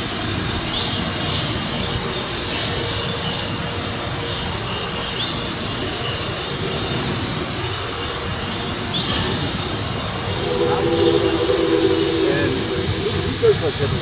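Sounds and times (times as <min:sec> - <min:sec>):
steam locomotives exhaust roar: 0:00.0 - 0:14.0.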